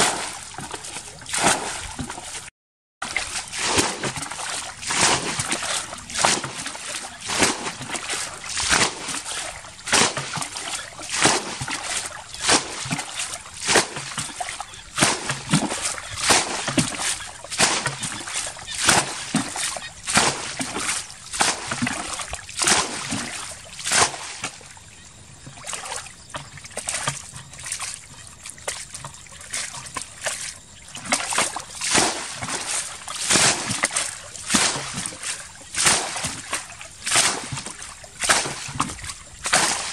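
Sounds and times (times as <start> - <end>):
bucket scooping and splashing water: 0.0 - 39.9.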